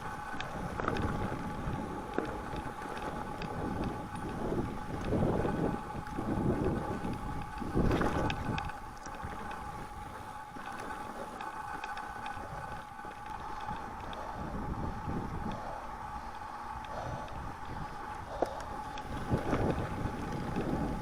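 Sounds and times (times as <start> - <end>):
bike tyres rolling on snow: 0.0 - 21.0
light clicks and rattles: 0.0 - 21.0
wind buffeting microphone: 0.0 - 21.0.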